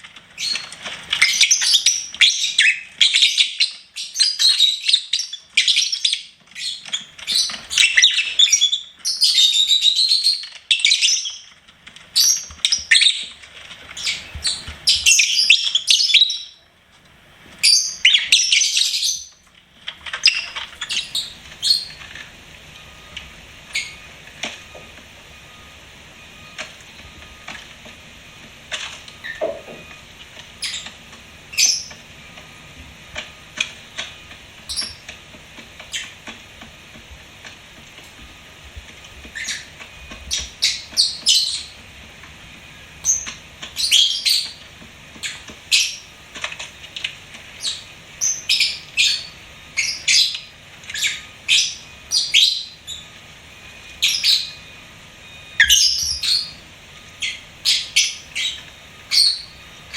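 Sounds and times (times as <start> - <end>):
lovebirds chirping and squawking: 0.2 - 16.7, 17.6 - 24.8, 28.7 - 32.3, 33.2 - 36.3, 39.2 - 41.9, 42.9 - 53.2, 54.0 - 54.7, 55.5 - 59.9.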